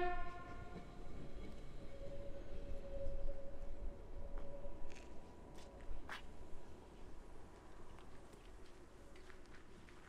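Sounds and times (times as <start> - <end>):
distant railcar whine and rumble: 0.0 - 10.0.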